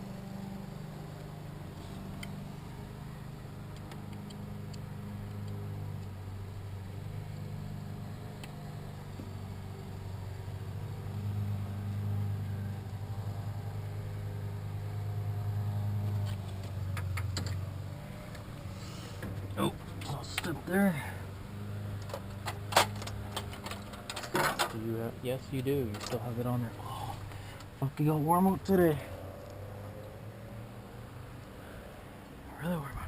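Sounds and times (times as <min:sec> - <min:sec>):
engine droning: 0:00.0 - 0:33.0.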